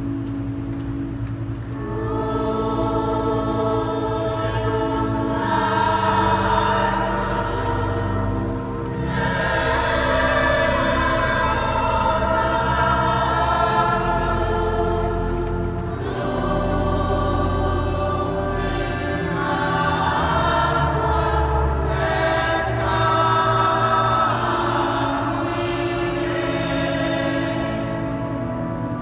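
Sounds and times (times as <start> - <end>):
choir singing sacred music: 0.0 - 29.0
deep held bass notes: 0.0 - 29.0.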